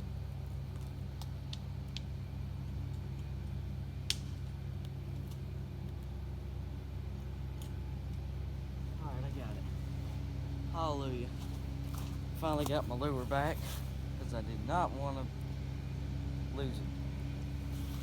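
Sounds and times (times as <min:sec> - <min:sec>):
highway traffic rumble: 0:00.0 - 0:18.0.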